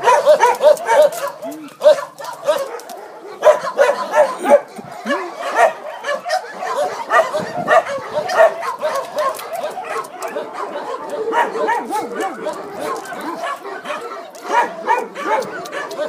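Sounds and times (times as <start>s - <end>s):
many dogs barking and yipping: 0.0s - 16.0s.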